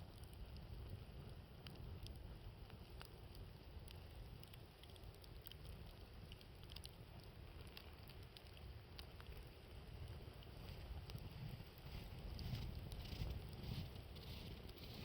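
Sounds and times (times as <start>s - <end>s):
campfire crackling and popping: 0.0s - 15.0s
wind rumble on microphone: 0.0s - 15.0s.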